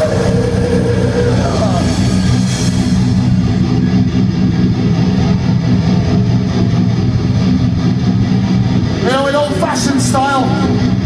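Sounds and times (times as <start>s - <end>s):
death metal band playing: 0.0s - 11.0s.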